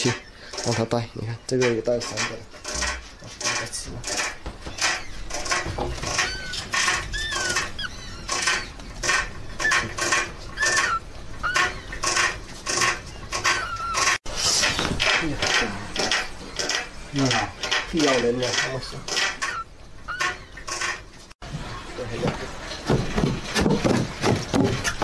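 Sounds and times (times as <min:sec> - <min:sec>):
high chirping squeaks: 0:00.0 - 0:17.0, 0:17.8 - 0:21.1
rat gnawing bamboo: 0:00.0 - 0:21.0.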